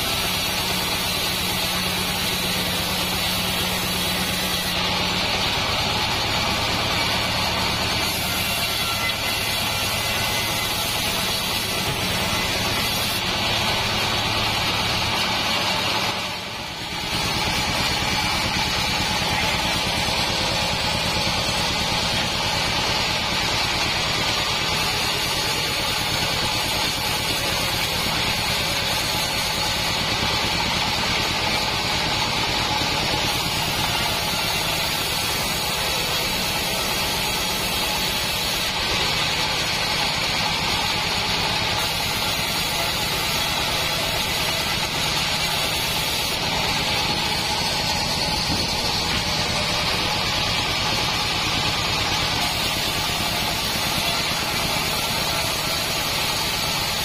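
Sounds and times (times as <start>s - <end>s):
bandsaw mill sawing wood: 0.0s - 57.0s.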